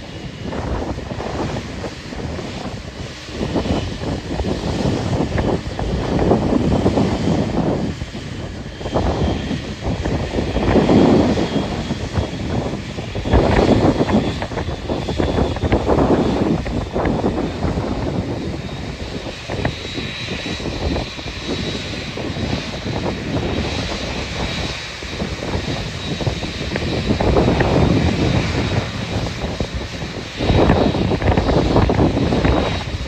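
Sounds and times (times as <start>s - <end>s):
jet engines whining: 0.0s - 33.0s
wind buffeting microphone: 0.0s - 33.0s.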